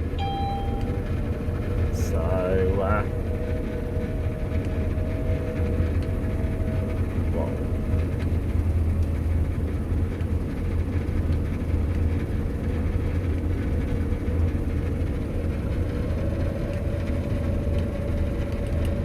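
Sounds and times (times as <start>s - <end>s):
combine harvester engine drone: 0.0s - 19.0s
steady machine whine: 0.0s - 19.0s.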